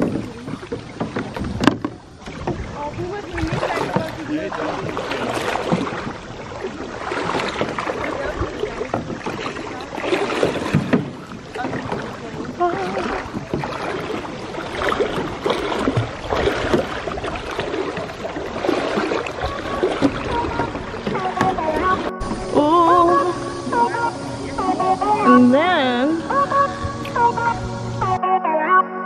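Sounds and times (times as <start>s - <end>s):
paddles splashing: 0.0s - 28.2s
water sloshing against hull: 0.0s - 28.2s.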